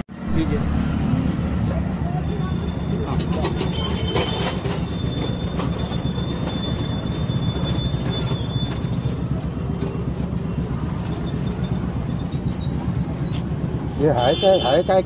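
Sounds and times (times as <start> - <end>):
street noise rumble: 0.0 - 15.0.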